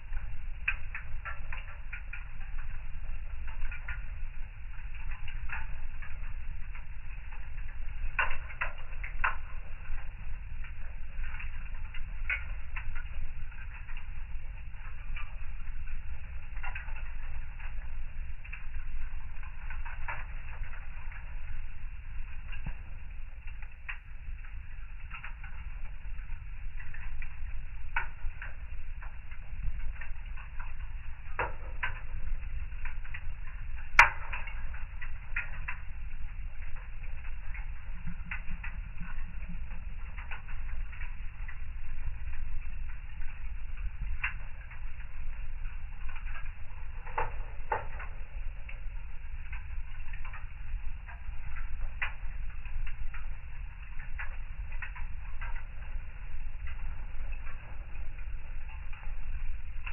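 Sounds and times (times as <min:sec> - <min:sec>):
low rumble of burning: 0:00.0 - 0:59.9
wood fire crackling: 0:00.0 - 0:59.9.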